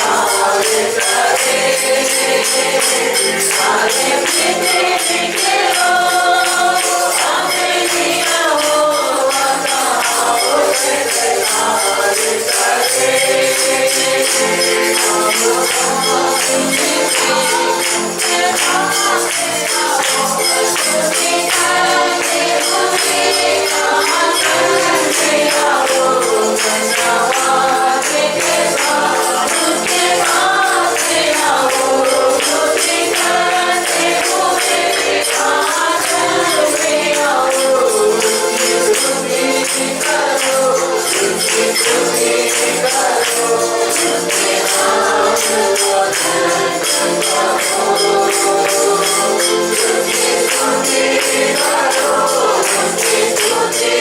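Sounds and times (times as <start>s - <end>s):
congregation singing: 0.0s - 54.0s
tambourine jingling: 0.0s - 54.0s.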